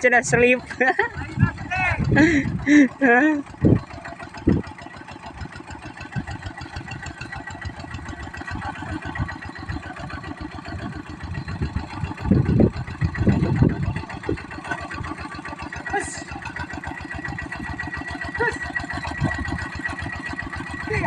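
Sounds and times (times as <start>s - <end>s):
tractor diesel engine chugging: 0.0s - 21.0s.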